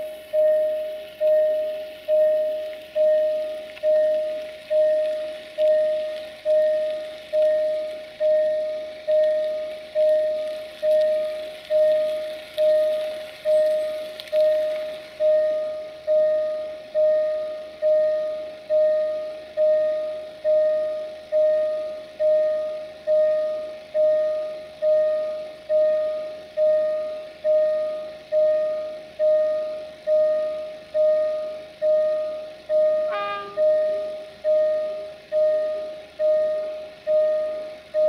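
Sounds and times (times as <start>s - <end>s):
level crossing warning bell: 0.0s - 38.0s.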